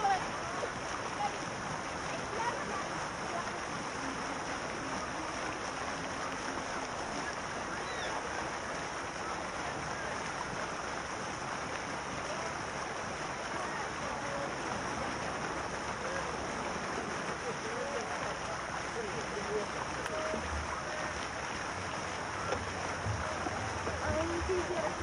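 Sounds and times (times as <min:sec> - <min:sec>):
running and splashing water: 0:00.0 - 0:25.0.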